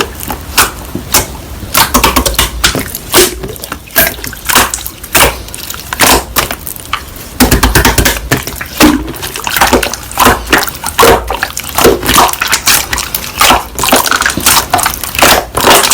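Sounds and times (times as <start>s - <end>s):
slime squelching by hand: 0.0s - 15.9s.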